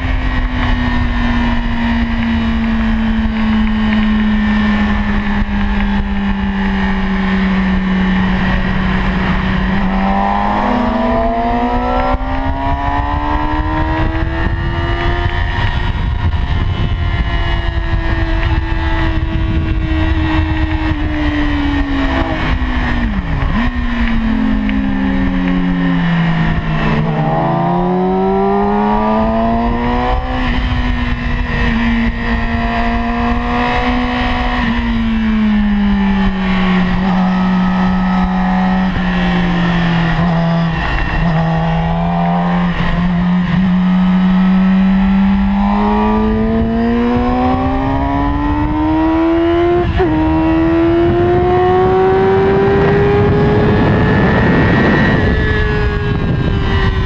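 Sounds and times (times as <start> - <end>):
motorcycle engine at high revs: 0.0 - 57.0
wind rushing: 4.3 - 57.0.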